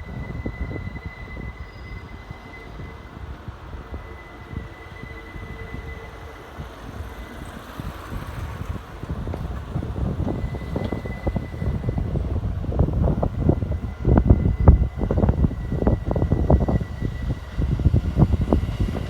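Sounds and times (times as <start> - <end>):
electric train rumble and clatter: 0.0 - 19.0.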